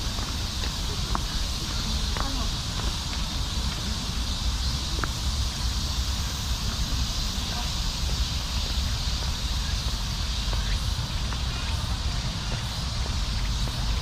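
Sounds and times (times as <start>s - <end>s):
insects hissing in trees: 0.0s - 14.0s
wind rumble on microphone: 0.0s - 14.0s.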